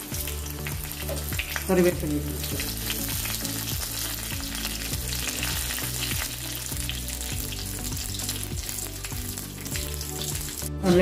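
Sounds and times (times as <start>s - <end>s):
leaves sizzling and crackling in oil: 0.0s - 11.0s.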